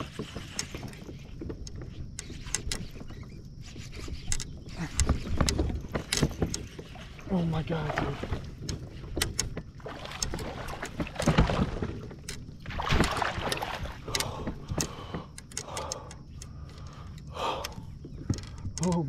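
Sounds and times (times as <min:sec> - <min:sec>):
tackle clicking against plastic kayak: 0:00.0 - 0:07.0, 0:08.2 - 0:19.0.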